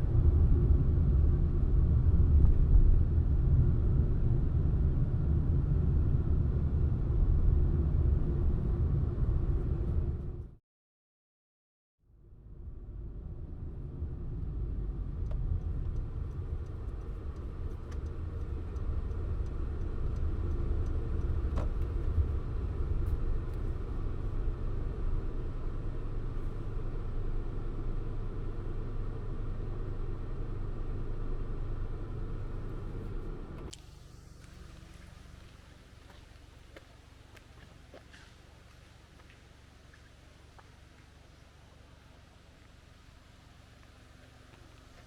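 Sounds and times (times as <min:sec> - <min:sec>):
van engine and road noise: 0:00.0 - 0:10.6, 0:12.2 - 0:45.0.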